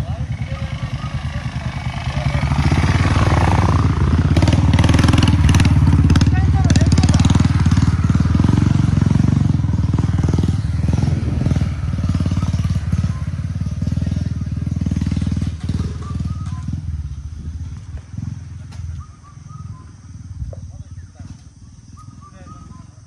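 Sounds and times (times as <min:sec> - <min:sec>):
motorcycle engine pulling away: 0:00.0 - 0:23.0.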